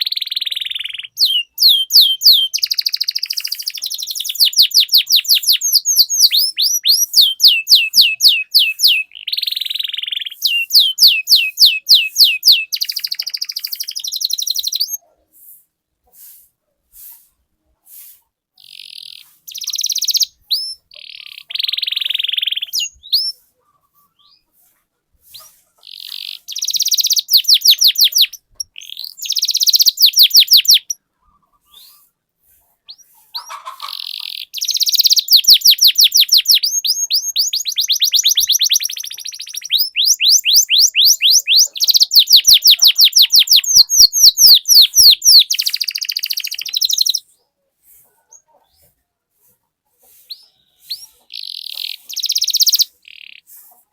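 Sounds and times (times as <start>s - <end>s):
canary singing trills: 0.0s - 15.2s, 18.6s - 32.2s, 32.8s - 48.9s, 50.0s - 53.9s.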